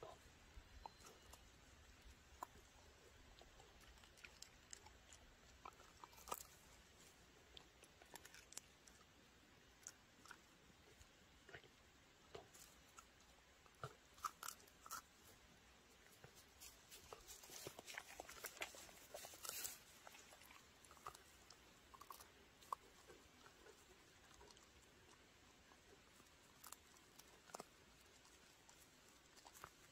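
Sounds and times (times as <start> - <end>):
dog chewing wood: 0.6 - 11.7, 16.1 - 29.9.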